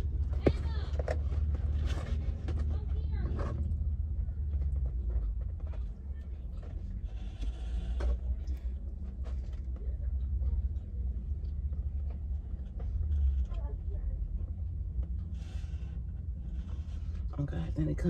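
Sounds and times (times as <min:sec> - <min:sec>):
low rumble in car cabin: 0:00.0 - 0:18.0.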